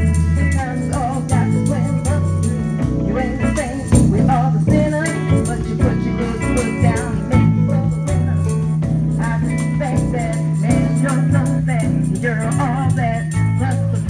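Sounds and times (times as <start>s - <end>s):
drum kit: 0.0s - 14.0s
electric guitars: 0.0s - 14.0s
keyboard: 0.0s - 14.0s.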